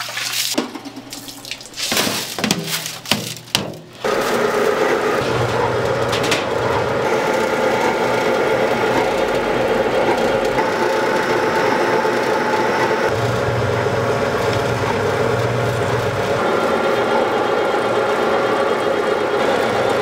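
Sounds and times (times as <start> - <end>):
machinery humming: 0.6 - 20.0.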